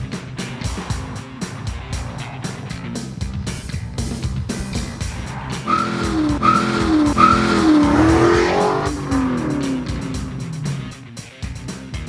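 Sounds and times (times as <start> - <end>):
background music: 0.0 - 12.0
car engine accelerating: 0.0 - 12.0.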